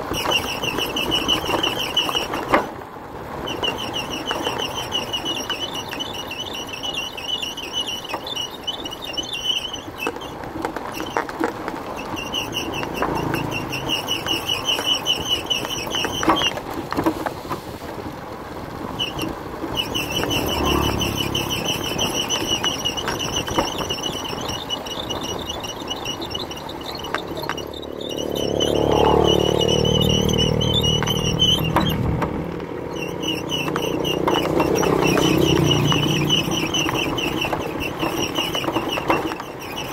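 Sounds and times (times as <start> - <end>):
bumps and knocks from road: 0.0 - 39.9
motorbike engine: 0.0 - 39.9.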